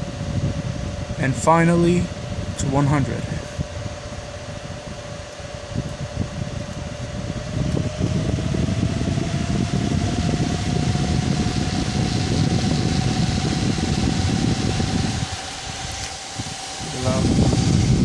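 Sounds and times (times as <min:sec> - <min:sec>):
cooling fans whining: 0:00.0 - 0:18.0.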